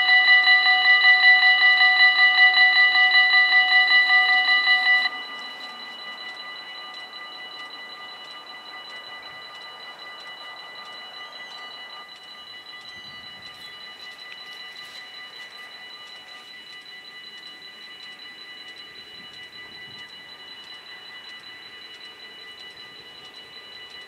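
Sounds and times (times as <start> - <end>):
level crossing warning bells: 0.0 - 24.0.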